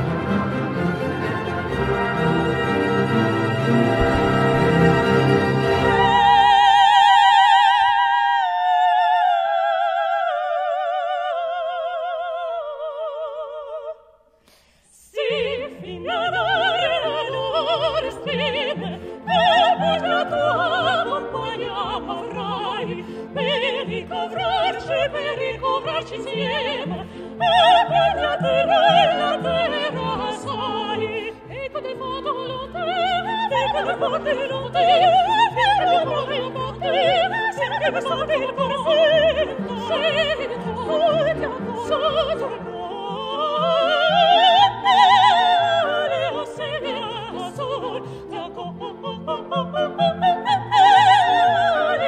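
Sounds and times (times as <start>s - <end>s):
symphony orchestra: 0.0s - 13.8s, 15.0s - 52.0s
women singing opera: 0.0s - 52.0s.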